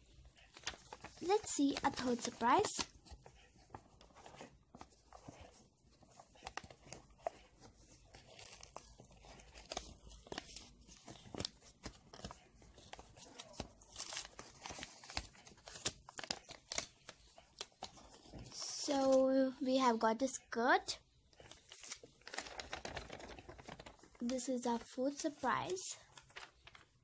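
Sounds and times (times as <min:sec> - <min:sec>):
paper crinkling and tearing: 0:00.0 - 0:19.4, 0:21.4 - 0:27.0.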